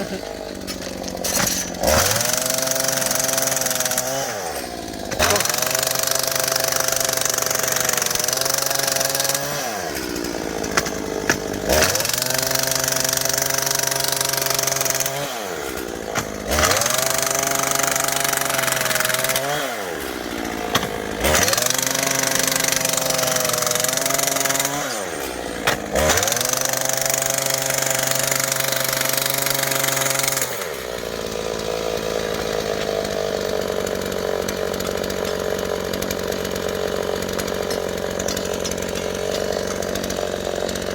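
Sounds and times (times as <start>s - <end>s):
small petrol engine revving: 0.0s - 40.9s.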